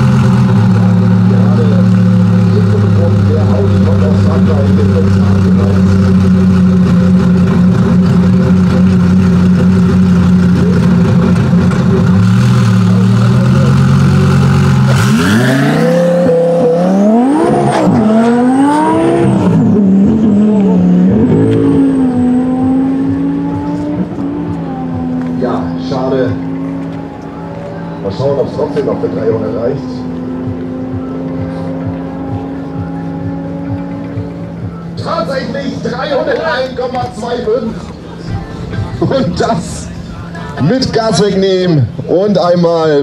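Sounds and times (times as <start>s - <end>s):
car engine revving and accelerating: 0.0s - 42.6s.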